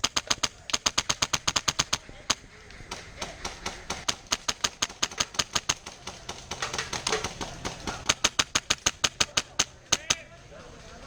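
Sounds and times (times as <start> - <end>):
airsoft guns firing: 0.0 - 11.0.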